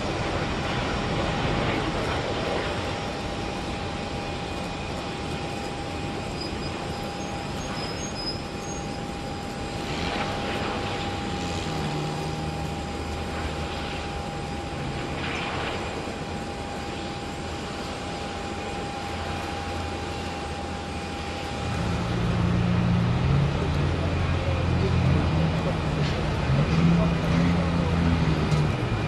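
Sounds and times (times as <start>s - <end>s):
jet engines rushing: 0.0s - 29.0s
thin engine whine: 3.0s - 29.0s.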